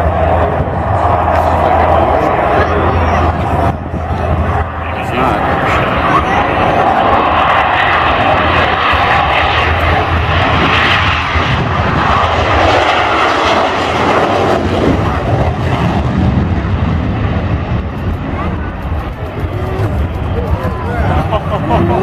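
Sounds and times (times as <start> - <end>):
airplane engine flying past: 0.0 - 22.0.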